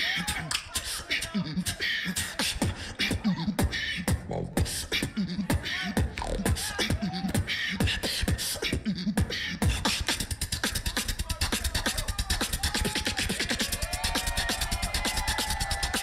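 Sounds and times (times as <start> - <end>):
beatboxing beat: 0.0 - 16.0
pitched vocal swoops: 0.0 - 16.0.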